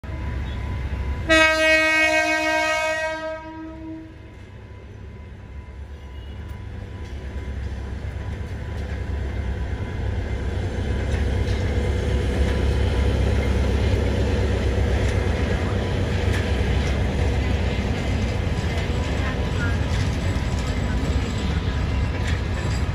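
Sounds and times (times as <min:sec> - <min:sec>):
diesel train engine rumble: 0:00.0 - 0:22.9.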